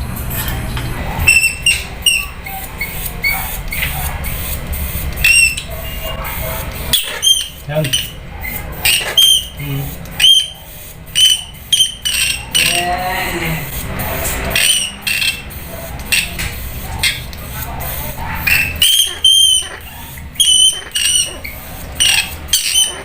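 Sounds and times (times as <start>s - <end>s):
rat squeaking: 1.2s - 23.0s.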